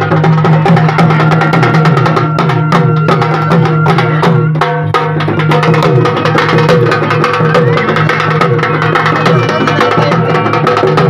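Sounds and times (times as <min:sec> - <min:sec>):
loud fast drumming: 0:00.0 - 0:11.0.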